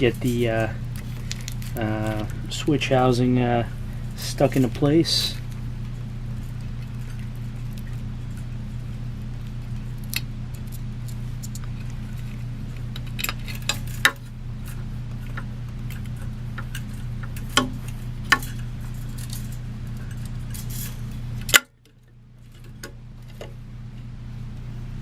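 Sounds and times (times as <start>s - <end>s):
fan parts clicking and clinking: 0.0s - 24.1s
steady low hum: 0.0s - 25.0s.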